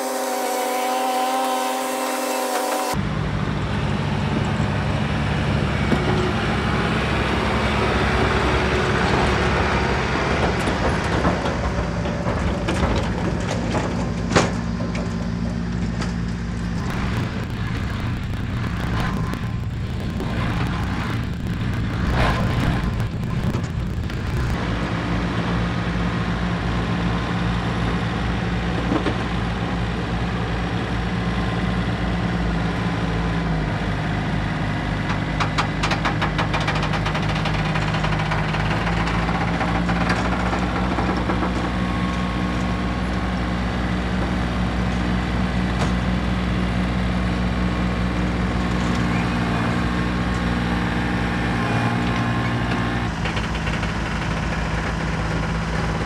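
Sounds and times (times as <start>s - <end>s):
tractor diesel engine running: 2.8s - 56.0s.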